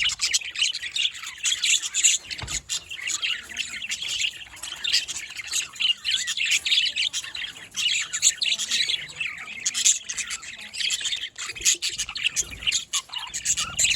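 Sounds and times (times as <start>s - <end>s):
budgerigars chattering and chirping: 0.0s - 13.9s.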